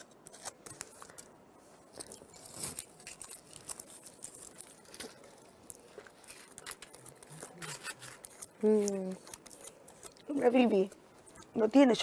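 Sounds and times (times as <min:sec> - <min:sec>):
clicks and rustles of handling: 0:00.0 - 0:12.0.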